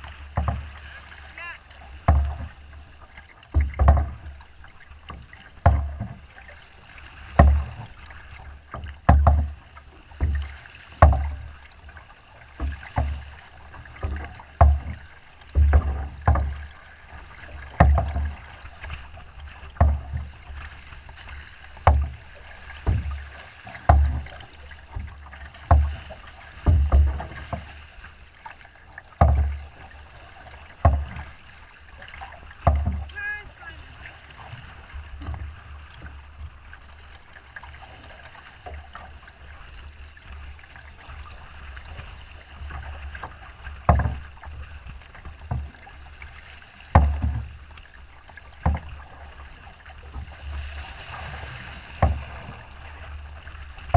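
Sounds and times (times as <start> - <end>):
steady water wash: 0.0 - 53.9
water slapping boat hull: 0.0 - 53.9.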